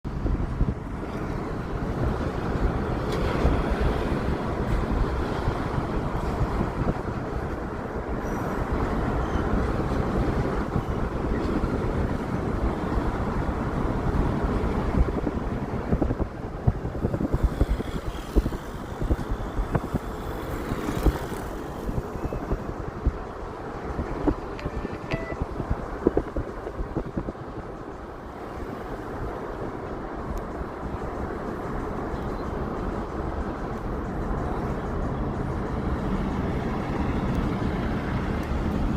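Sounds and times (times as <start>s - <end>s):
steel wheels rumbling on rail: 0.1s - 38.9s.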